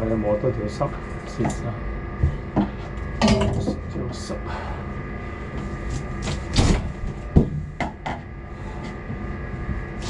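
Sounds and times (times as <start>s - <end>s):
machinery hum: 0.0s - 10.0s.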